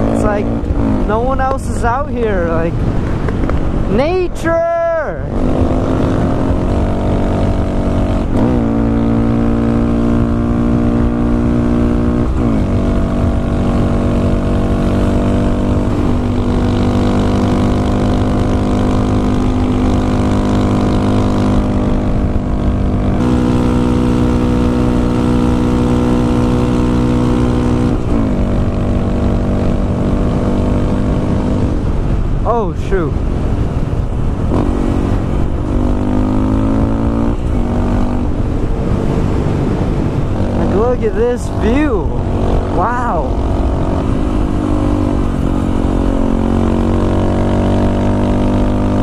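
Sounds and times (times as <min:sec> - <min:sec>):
motorcycle engine cruising: 0:00.0 - 0:49.0
wind noise on microphone: 0:00.0 - 0:49.0.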